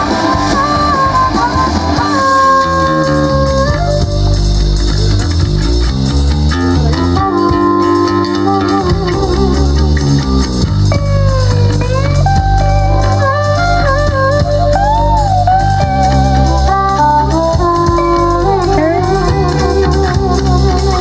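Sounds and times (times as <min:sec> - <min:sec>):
guitar note bending: 0:00.0 - 0:21.0
rock band playing live: 0:00.0 - 0:21.0.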